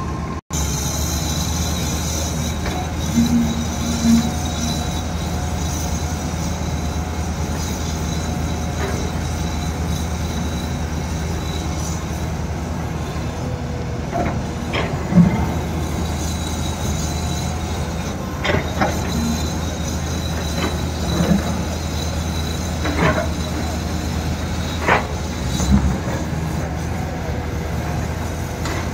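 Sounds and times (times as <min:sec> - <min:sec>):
excavator diesel engine: 0:00.0 - 0:28.9
hydraulic whine: 0:00.0 - 0:28.9.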